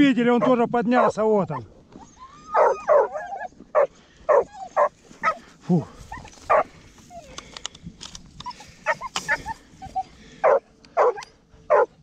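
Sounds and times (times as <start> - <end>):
hounds yelping and whining: 0.4 - 7.4, 8.4 - 12.0.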